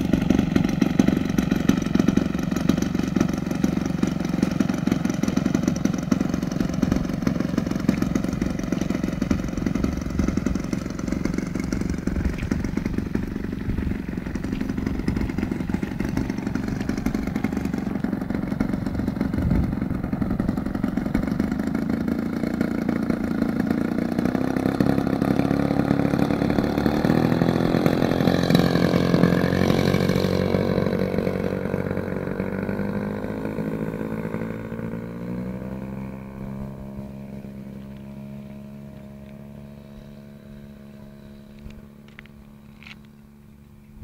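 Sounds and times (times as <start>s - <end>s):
model airplane engine passing: 0.0s - 44.0s.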